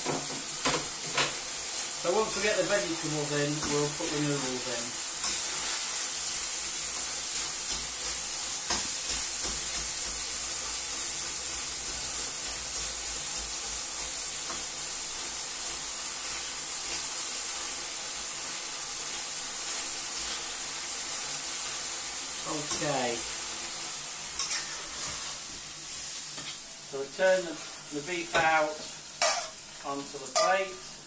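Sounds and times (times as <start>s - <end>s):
beef sizzling in a pan: 0.0s - 31.0s.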